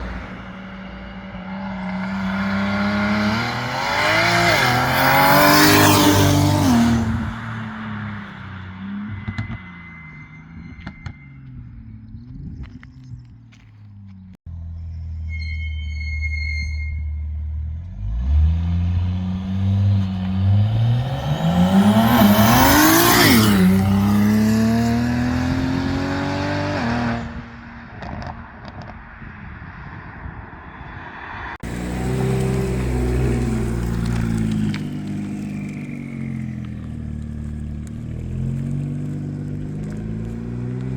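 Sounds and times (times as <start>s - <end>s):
car exhaust accelerating: 0.0s - 14.7s, 17.1s - 29.1s, 31.6s - 40.9s.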